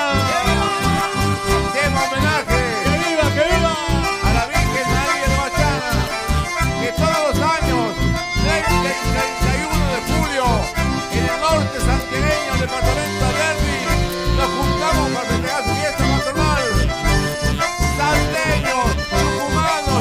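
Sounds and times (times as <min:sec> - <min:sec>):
acoustic guitars: 0:00.0 - 0:20.0
button accordions: 0:00.0 - 0:20.0
steady bass beat: 0:00.0 - 0:20.0.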